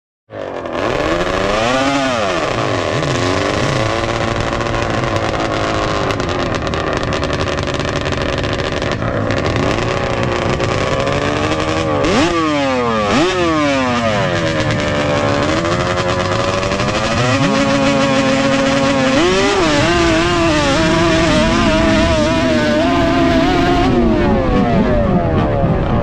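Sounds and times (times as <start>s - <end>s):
atv engines revving loudly: 0.3s - 26.0s.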